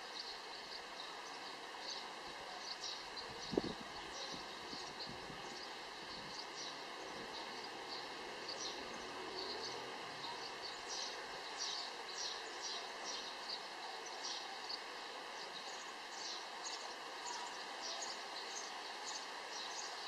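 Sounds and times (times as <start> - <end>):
background hiss: 0.0 - 20.0
small birds chirping: 0.0 - 20.0.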